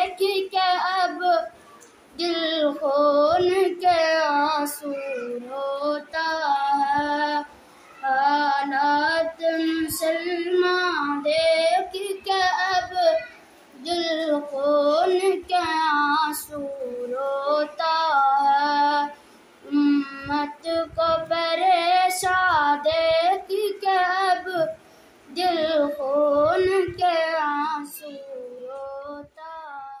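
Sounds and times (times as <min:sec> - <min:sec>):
boy singing: 0:00.0 - 0:30.0.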